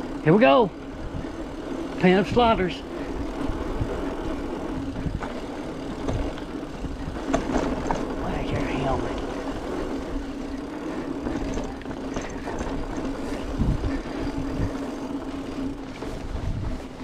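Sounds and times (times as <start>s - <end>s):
low hum: 0.0s - 17.0s
rolling rumble of a ride: 0.0s - 17.0s.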